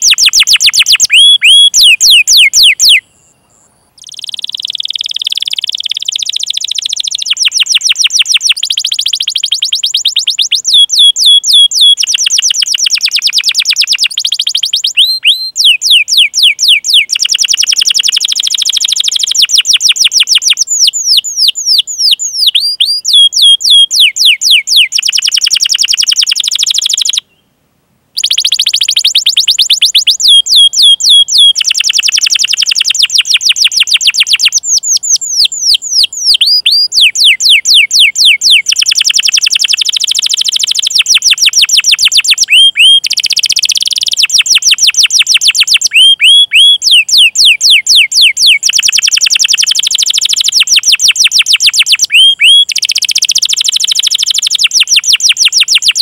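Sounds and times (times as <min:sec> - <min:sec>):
canary singing: 0:00.0 - 0:27.4, 0:28.2 - 0:56.0.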